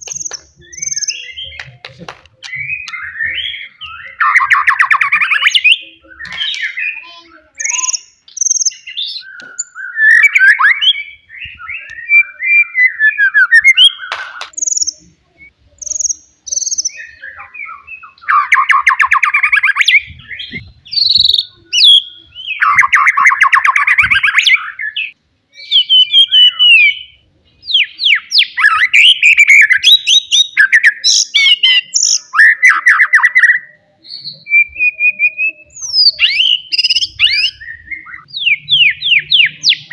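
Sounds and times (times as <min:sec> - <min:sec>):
bird singing whistles and trills: 0:00.0 - 0:01.6, 0:02.4 - 0:39.9.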